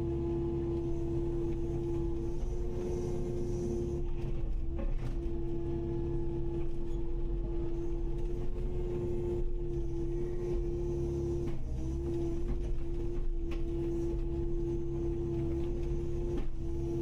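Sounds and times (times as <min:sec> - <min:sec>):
excavator engine rumble: 0:00.0 - 0:17.0.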